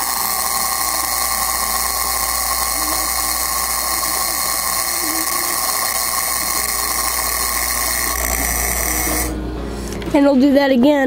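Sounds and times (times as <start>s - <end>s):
alarm clock buzzing: 0.0s - 9.4s.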